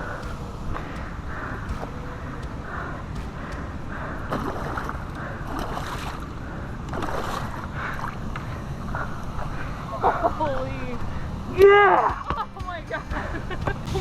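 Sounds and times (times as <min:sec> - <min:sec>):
water splashes: 0:00.0 - 0:14.0.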